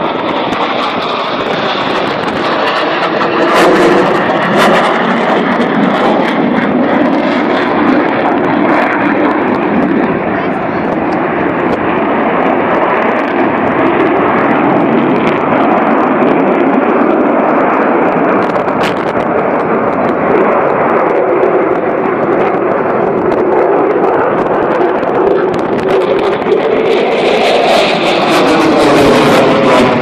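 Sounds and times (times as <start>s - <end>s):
airplane engine roar: 0.0s - 30.0s.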